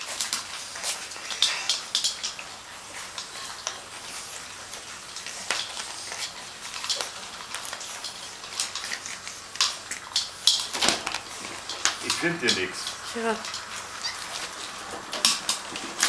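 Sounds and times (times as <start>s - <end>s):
puppy claws scratching a mat: 0.0s - 12.2s, 12.8s - 16.0s.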